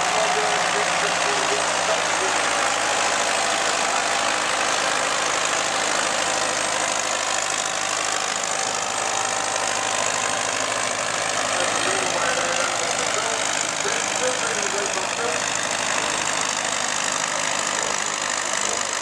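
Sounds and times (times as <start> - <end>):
diesel tractor engines running: 0.0 - 19.0.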